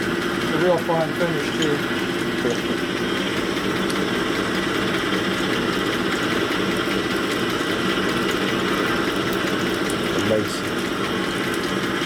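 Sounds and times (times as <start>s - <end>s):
honing machine humming: 0.0s - 12.0s.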